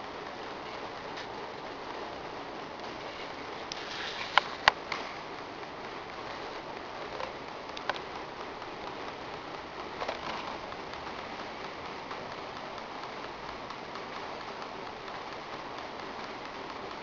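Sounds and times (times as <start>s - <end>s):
water pattering like rain: 0.1s - 17.0s.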